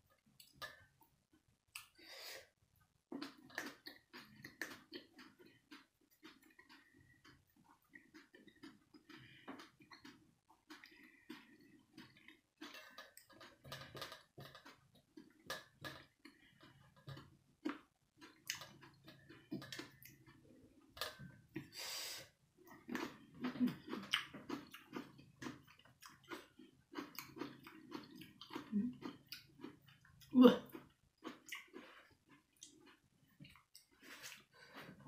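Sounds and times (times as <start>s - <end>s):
person chewing: 3.1s - 35.0s.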